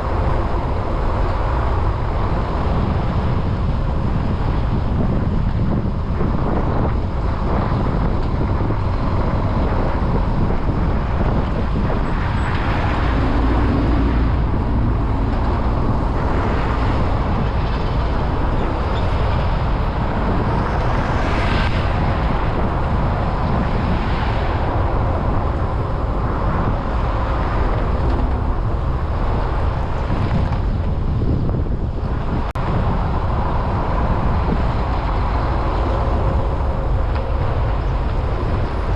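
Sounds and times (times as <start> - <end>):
cars passing: 0.0 - 38.9
wind on microphone: 0.0 - 38.9.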